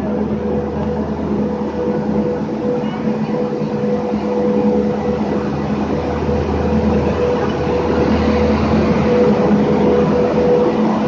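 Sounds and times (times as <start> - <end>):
electric locomotive hum: 0.0 - 11.0
wheels rumbling on rail: 0.0 - 11.0.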